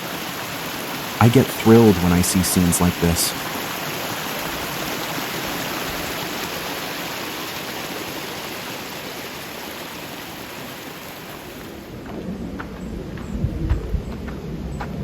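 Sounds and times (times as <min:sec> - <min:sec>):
mountain stream rushing: 0:00.0 - 0:12.1.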